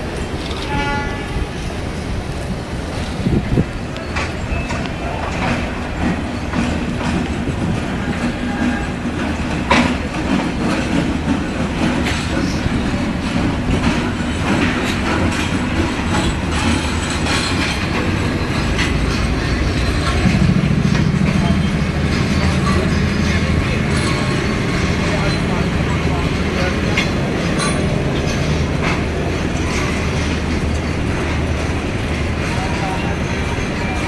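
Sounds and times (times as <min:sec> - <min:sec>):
diesel locomotive engine hum: 0:00.0 - 0:34.0
wheels clicking over rail joints: 0:02.8 - 0:34.0.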